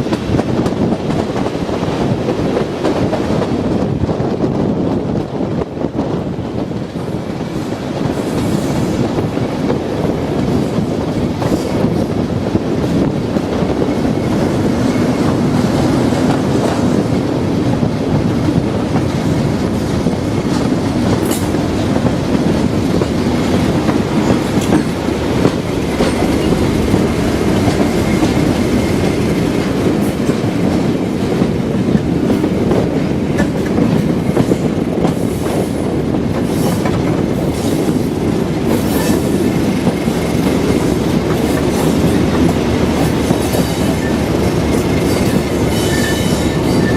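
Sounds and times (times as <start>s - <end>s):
diesel train rumbling: 0.0s - 46.9s
wheels clacking over rail joints: 6.9s - 46.9s.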